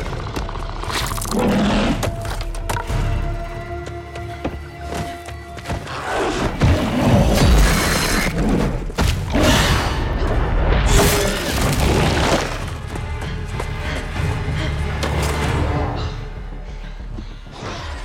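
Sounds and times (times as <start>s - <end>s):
film score music: 0.0s - 18.0s.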